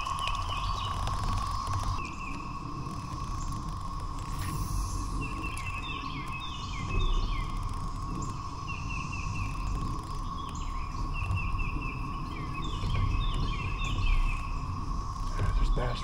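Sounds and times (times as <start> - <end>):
cicada chorus droning: 0.0 - 16.0
songbird singing: 0.0 - 16.0.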